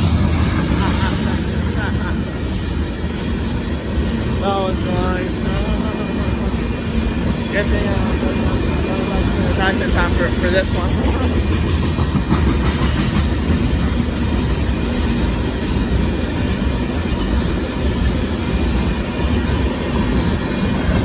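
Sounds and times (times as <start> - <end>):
steel train wheels on rails: 0.0 - 21.0.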